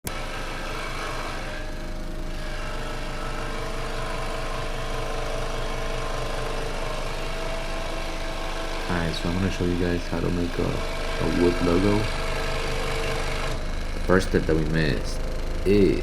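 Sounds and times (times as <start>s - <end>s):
scroll saw buzzing: 0.1s - 16.0s.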